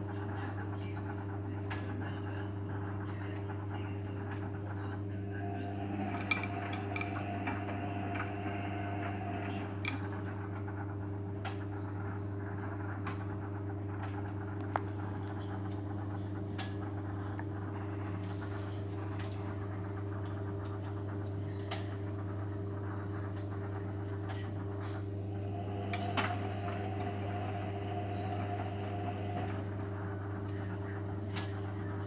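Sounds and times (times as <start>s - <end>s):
washing machine motor hum: 0.0s - 32.0s.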